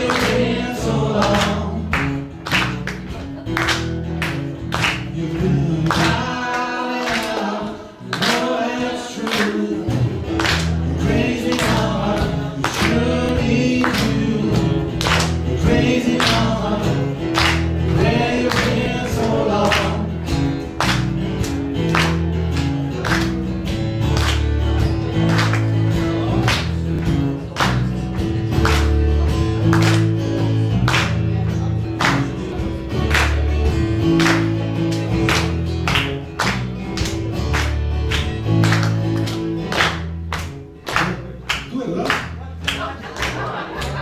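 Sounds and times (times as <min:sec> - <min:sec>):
acoustic guitars strumming: 0:00.0 - 0:44.0
audience clapping along: 0:00.0 - 0:44.0.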